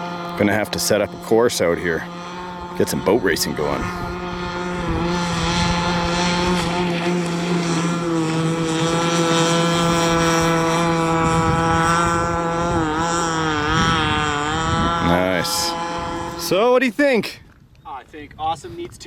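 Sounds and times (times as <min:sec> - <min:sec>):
small two-stroke engine droning: 0:00.0 - 0:16.8.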